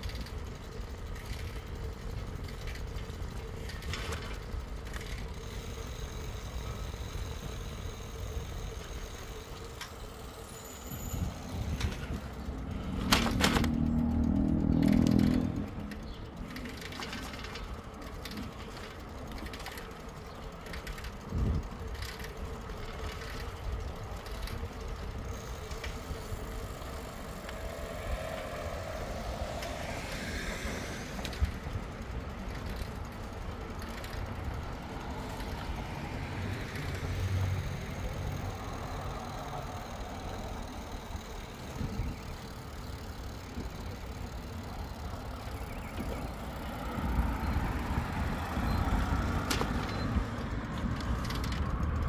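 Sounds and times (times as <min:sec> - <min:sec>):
bicycle tyres rumbling on pavement: 0:00.0 - 0:52.0.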